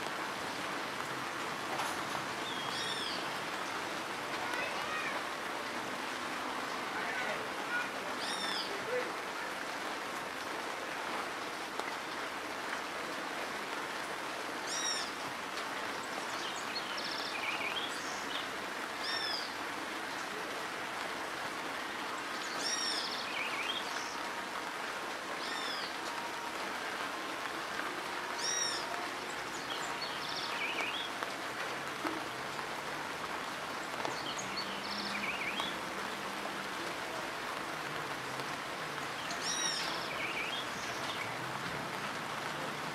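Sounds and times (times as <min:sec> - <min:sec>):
rain falling on dirt road: 0:00.0 - 0:42.9.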